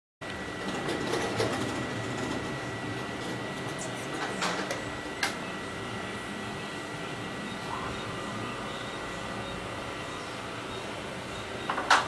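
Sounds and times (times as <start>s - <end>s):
folding machine humming and whining: 0.2s - 12.0s.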